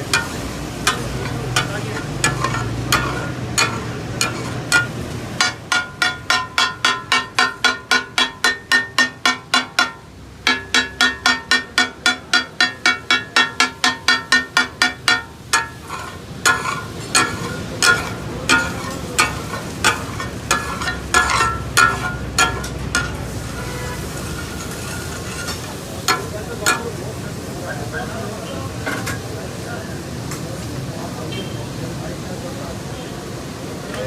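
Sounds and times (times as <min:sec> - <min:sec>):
metal spatulas clanging on griddle: 0:00.0 - 0:29.4.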